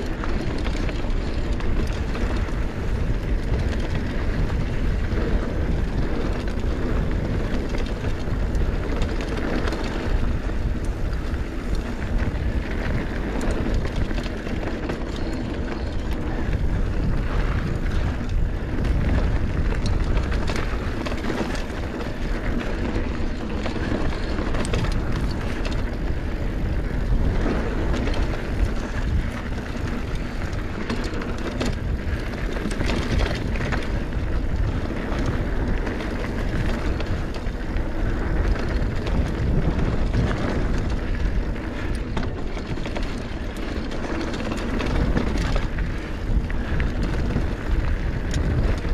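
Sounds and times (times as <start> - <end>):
bike clicks and rattles: 0.0 - 48.9
mountain bike riding noise: 0.0 - 48.9.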